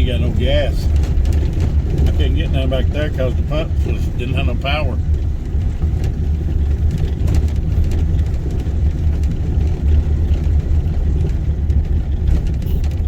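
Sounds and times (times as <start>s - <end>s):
engine and tyres rumbling: 0.0s - 13.0s.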